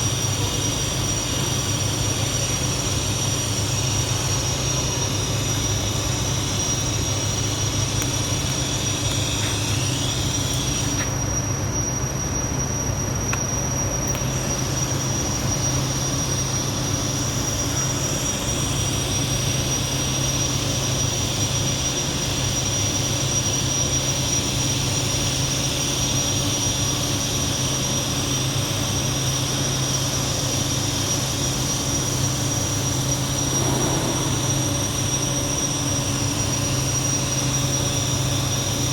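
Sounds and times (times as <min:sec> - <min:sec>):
thin high whine: 0:00.0 - 0:38.9
welding arc humming and hissing: 0:00.0 - 0:38.9.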